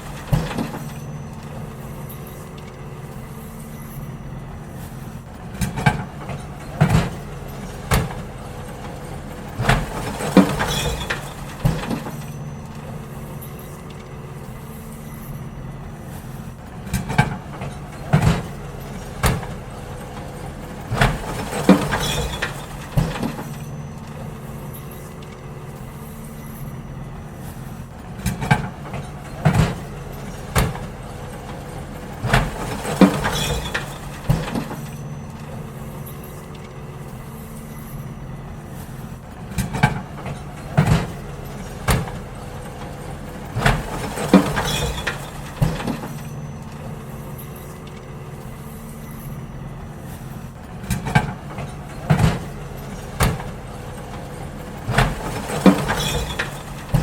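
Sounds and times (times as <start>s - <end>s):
bins banging and clanking: 0.0s - 57.0s
garbage truck engine running: 0.0s - 57.0s.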